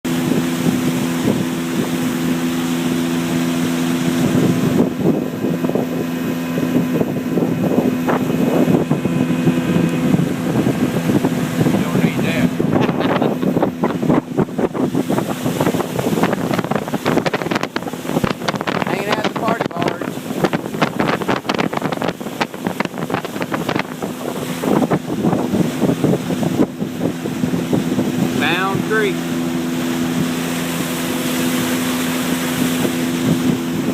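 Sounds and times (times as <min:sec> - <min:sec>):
motorboat engine running: 0:00.0 - 0:33.9
rough gusts or splashes: 0:00.0 - 0:33.9
wind on microphone: 0:00.0 - 0:33.9.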